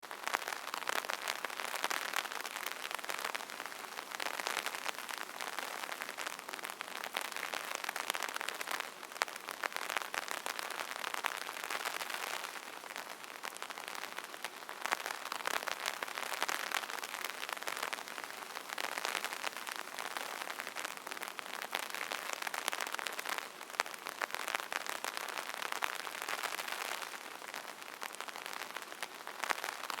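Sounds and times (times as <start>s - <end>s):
rain pattering on umbrella: 0.0s - 30.0s.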